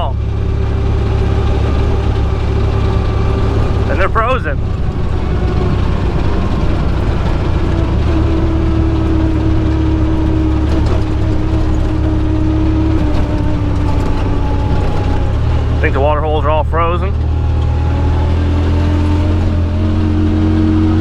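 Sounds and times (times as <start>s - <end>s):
steady whine: 0.0s - 21.0s
utility vehicle engine running: 0.0s - 21.0s.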